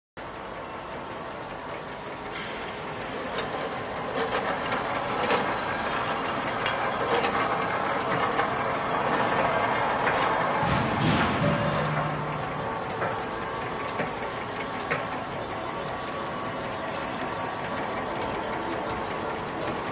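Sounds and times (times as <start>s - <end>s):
small mechanical clicks: 0.3s - 19.9s.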